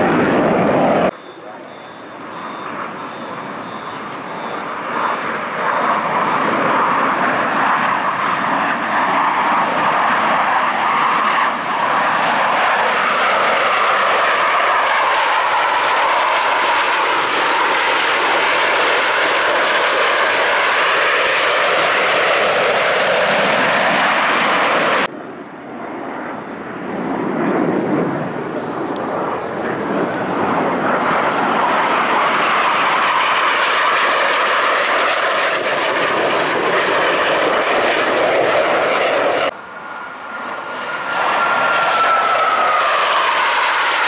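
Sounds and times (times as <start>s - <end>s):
jets roaring past: 0.0s - 44.0s.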